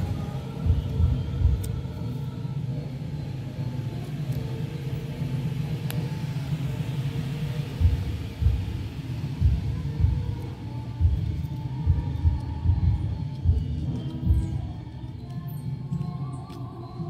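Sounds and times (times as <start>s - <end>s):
engine-like mechanical rumble: 0.0s - 17.0s.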